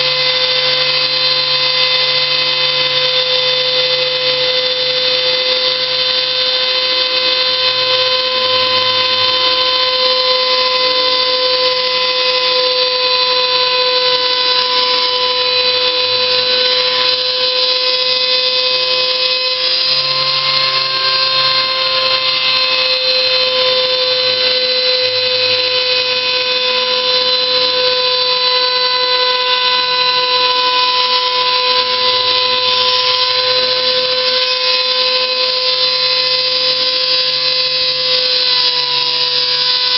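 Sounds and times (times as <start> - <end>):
machine motor whining: 0.0 - 39.9.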